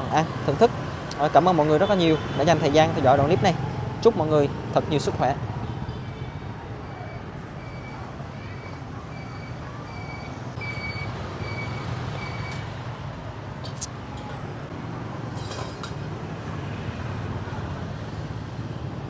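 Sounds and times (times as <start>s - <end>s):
passing vehicles rumble: 0.0s - 19.0s.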